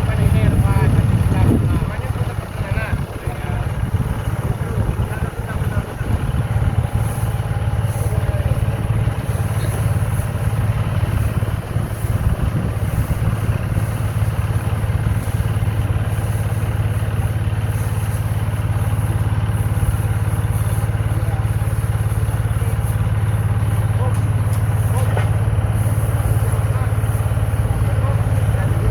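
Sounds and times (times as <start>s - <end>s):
combine harvester engine droning: 0.0s - 28.9s.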